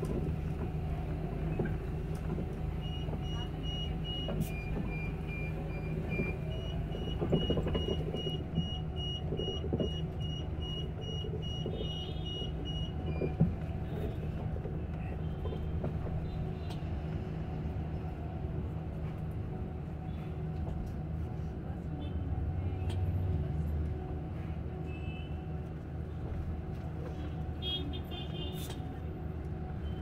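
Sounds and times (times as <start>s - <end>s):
bus cabin hum and road noise: 0.0s - 30.0s.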